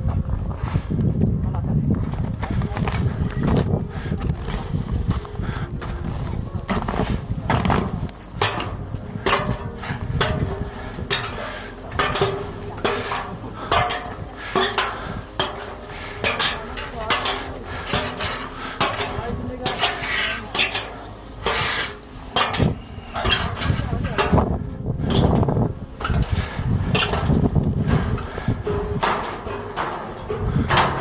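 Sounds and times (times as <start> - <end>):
footsteps on snow and ice: 0.0 - 31.0.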